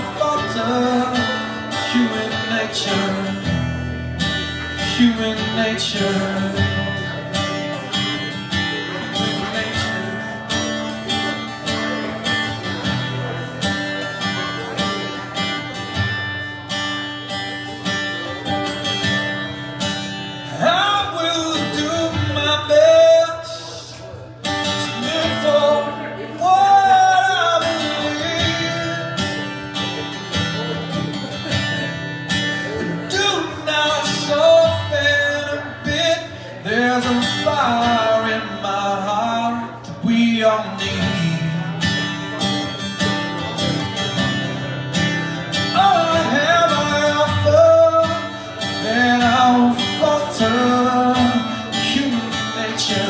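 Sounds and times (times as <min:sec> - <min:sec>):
strummed acoustic guitar: 0:00.0 - 0:53.0.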